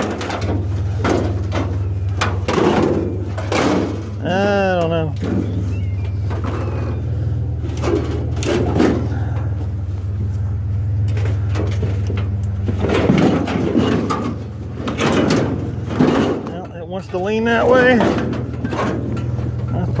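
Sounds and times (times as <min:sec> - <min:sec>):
scrap metal clattering and scraping: 0:00.0 - 0:20.0
truck engine idling: 0:00.0 - 0:20.0.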